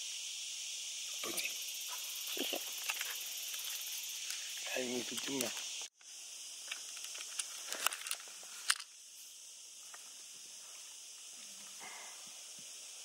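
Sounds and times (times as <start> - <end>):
high outdoor hiss: 0.0 - 13.0.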